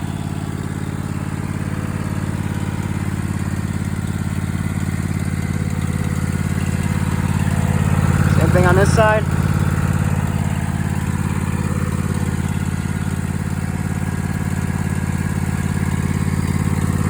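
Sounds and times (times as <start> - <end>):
lawn mower engine idling: 0.0 - 17.0.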